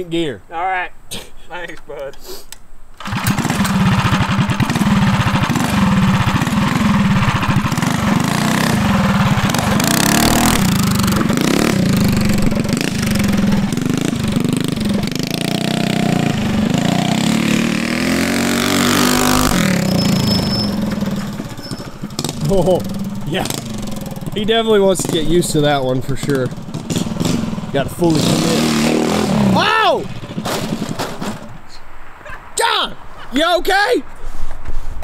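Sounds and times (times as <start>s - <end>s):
mini bike engine revving: 3.0s - 31.5s.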